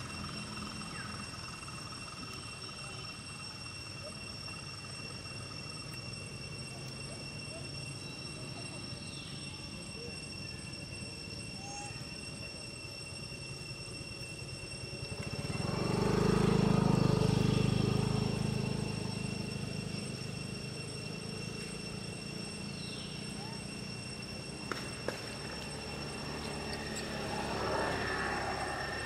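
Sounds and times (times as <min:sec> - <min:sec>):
vehicle engine and tyre noise: 0:00.0 - 0:07.2, 0:12.7 - 0:29.0
high insect tones: 0:00.0 - 0:29.0.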